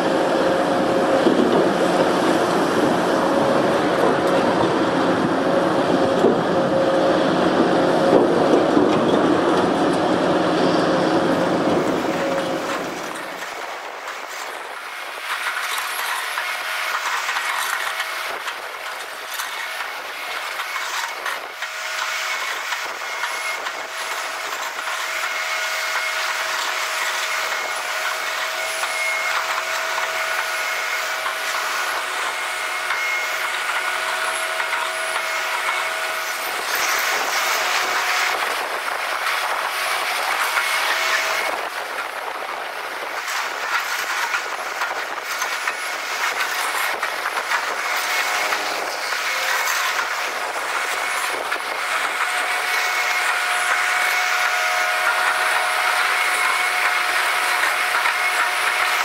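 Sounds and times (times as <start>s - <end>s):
machinery whining: 0.0s - 59.0s.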